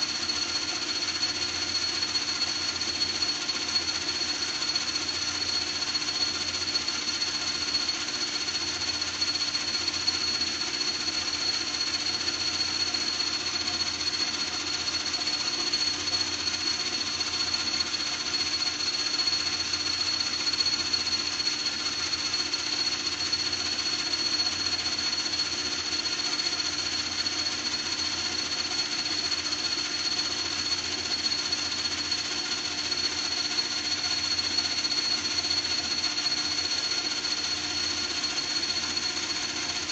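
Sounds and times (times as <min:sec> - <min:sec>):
small motor whining and rattling: 0:00.0 - 0:39.9.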